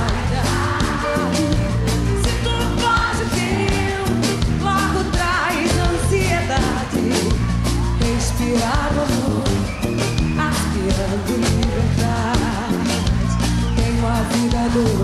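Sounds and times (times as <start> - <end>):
heavy bass line: 0.0 - 14.0
person singing: 0.0 - 15.0.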